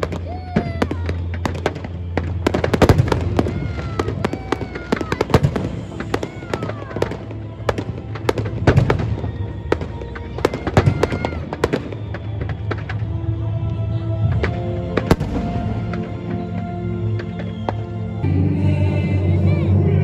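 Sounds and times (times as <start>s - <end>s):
fireworks bangs and crackles: 0.0s - 18.3s.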